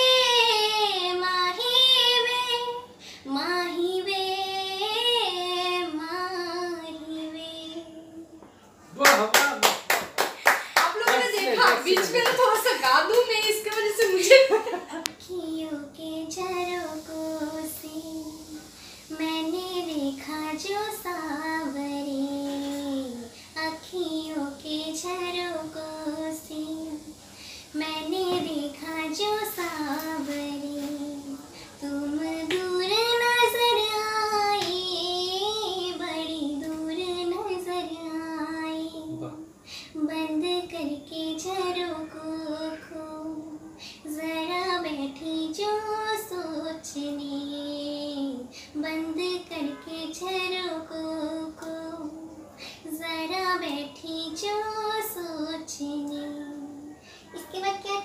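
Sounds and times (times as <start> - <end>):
girl singing unaccompanied: 0.0 - 8.8, 10.5 - 58.0.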